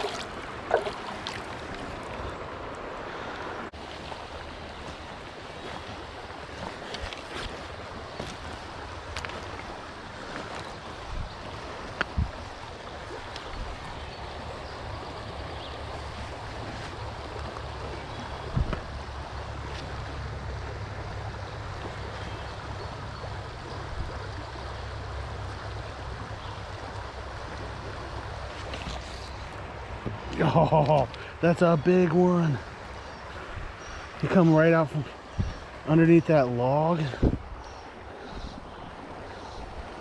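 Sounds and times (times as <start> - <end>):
stream water running: 0.0 - 40.0.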